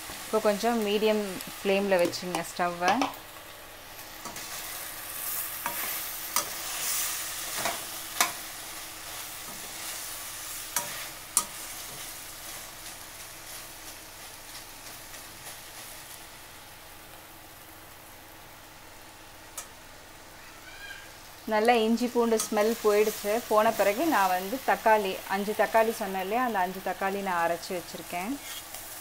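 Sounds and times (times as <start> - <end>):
chicken sizzling in oil: 0.0 - 29.0.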